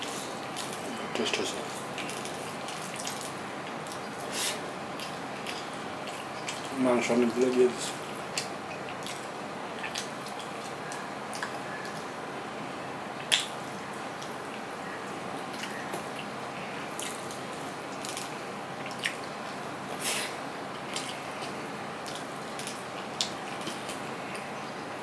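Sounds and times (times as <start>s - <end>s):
chewing and mouth smacks: 0.0s - 12.2s, 13.2s - 14.7s, 15.4s - 24.6s
steady background hiss: 0.0s - 25.0s.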